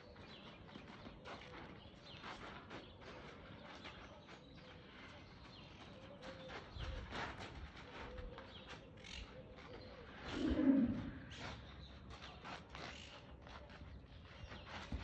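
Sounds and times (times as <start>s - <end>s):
outdoor ambience: 0.0s - 15.0s.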